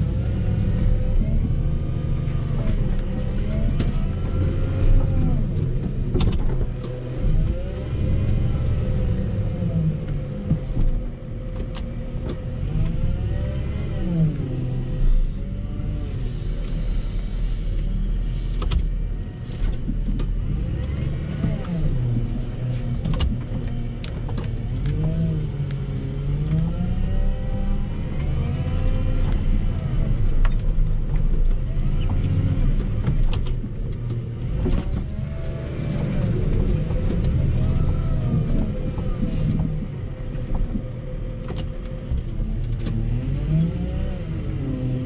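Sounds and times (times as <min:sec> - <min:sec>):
diesel engine working under load: 0:00.0 - 0:45.0.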